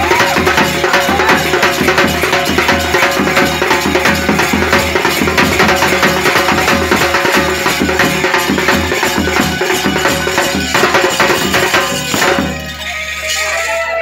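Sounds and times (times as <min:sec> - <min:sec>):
clapping and percussion rhythm: 0:00.0 - 0:13.7.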